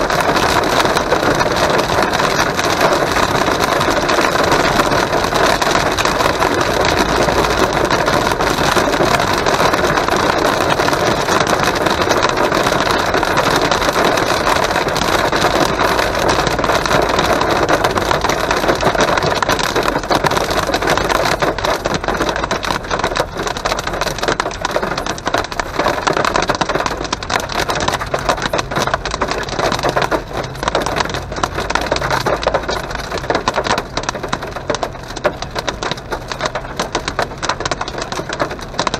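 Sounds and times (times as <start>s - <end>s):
heavy rain on car windshield: 0.0s - 38.9s
tyre noise on wet road: 0.0s - 38.9s.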